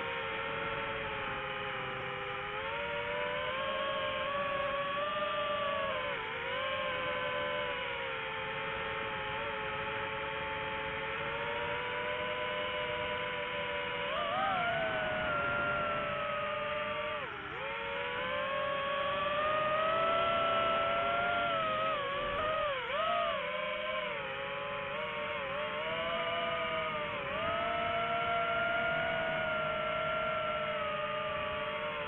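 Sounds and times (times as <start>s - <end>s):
quadcopter motors whining: 0.0s - 32.0s.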